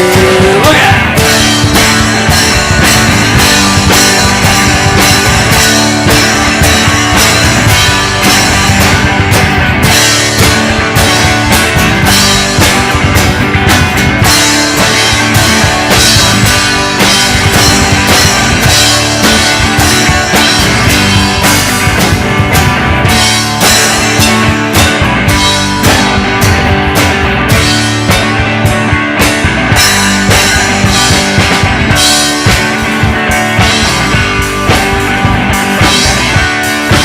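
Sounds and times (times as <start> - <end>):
drum kit beat: 0.0 - 37.0
electric guitar: 0.0 - 37.0.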